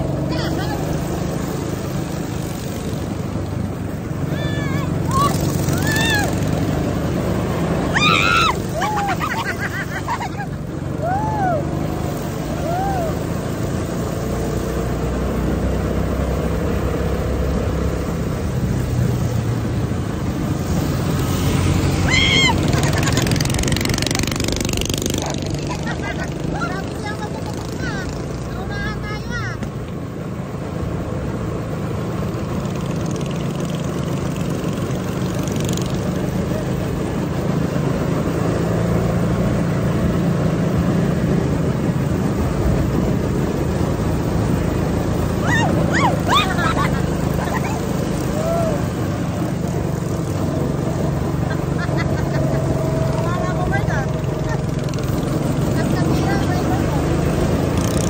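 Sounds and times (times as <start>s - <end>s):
go-kart engine running: 0.0s - 58.0s
road and wind noise: 0.0s - 58.0s.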